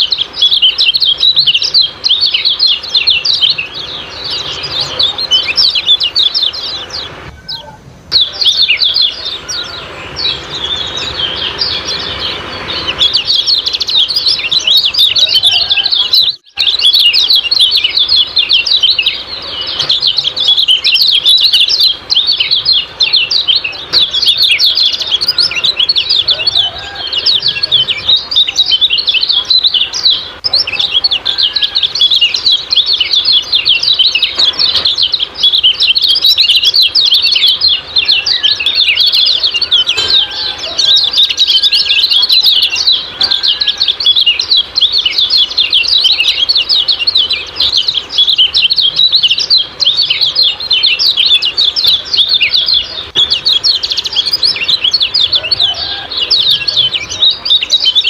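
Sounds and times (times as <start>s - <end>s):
songbird rapid chirping call: 0.0s - 58.0s.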